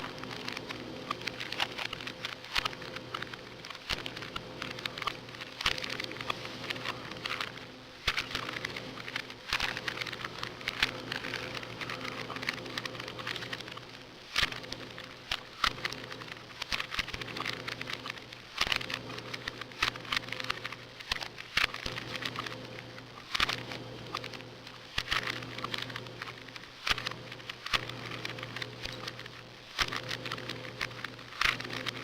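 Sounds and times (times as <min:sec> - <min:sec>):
faint steady hum: 0:00.0 - 0:32.0
puzzle cube plastic clicks: 0:00.0 - 0:32.0.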